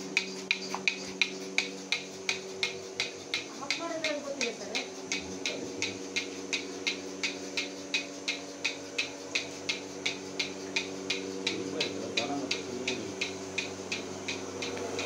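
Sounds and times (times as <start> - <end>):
milking machine engine hum: 0.0 - 15.0
pulsators clicking: 0.0 - 15.0.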